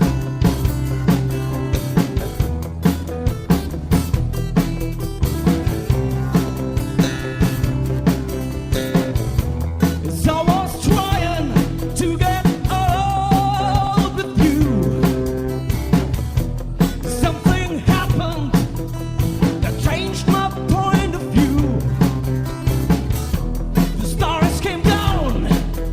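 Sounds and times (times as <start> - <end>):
drum kit beat: 0.0 - 25.9
electric guitar: 0.0 - 25.9
rock band playing: 0.0 - 25.9
sustained bass notes: 0.0 - 25.9.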